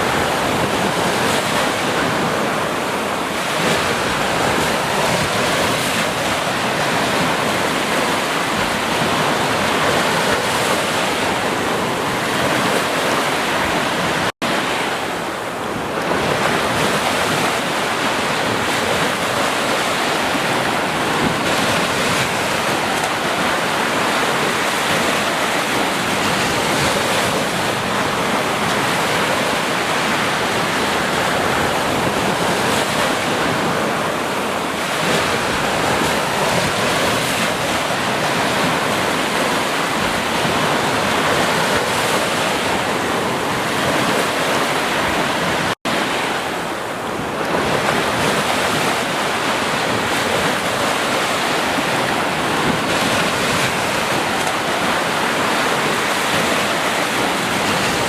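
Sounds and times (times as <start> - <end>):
ocean surf washing onto beach: 0.0 - 58.0.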